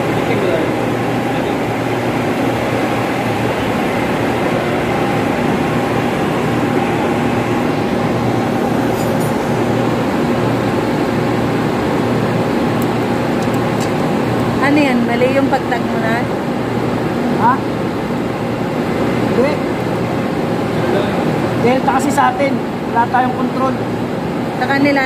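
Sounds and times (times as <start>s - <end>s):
air-handling fan drone: 0.0s - 25.0s.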